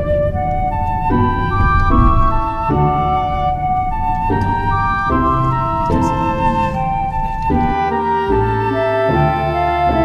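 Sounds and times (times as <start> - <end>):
bass line: 0.0 - 10.0
flute-like melody: 0.0 - 10.0
sustained chords: 0.0 - 10.0.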